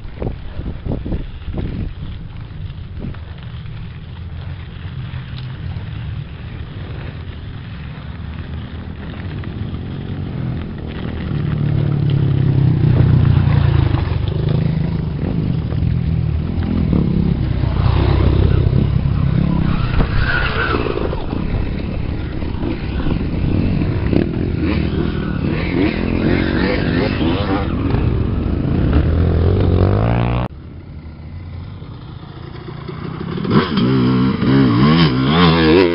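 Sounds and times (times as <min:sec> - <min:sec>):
wind rumble on microphone: 0:00.0 - 0:30.8
dirt bike engines: 0:00.0 - 0:35.9.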